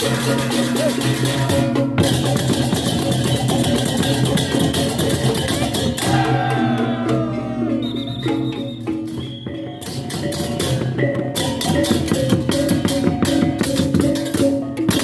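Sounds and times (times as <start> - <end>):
clashing percussion strokes: 0.0 - 15.0.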